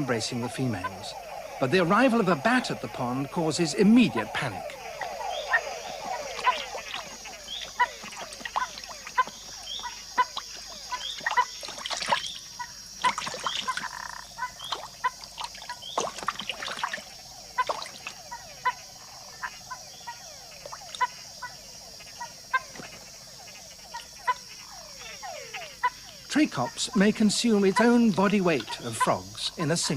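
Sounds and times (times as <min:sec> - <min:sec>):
falling frog whines: 0:00.0 - 0:29.9
frogs calling: 0:00.0 - 0:29.9
high insect hum: 0:00.0 - 0:29.9.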